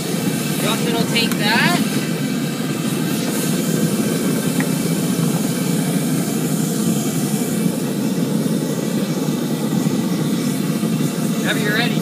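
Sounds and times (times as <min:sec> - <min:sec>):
furnace burner roar: 0:00.0 - 0:12.0.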